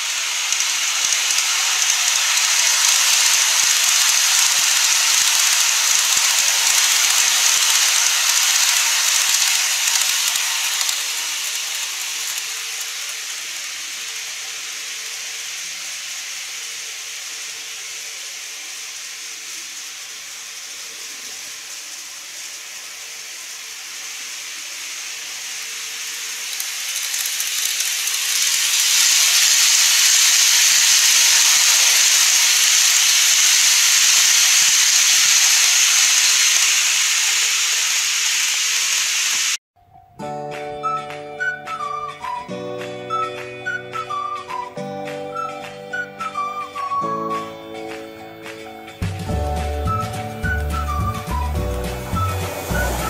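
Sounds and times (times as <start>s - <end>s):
model trains hissing on track: 0.0s - 39.6s, 41.4s - 53.0s.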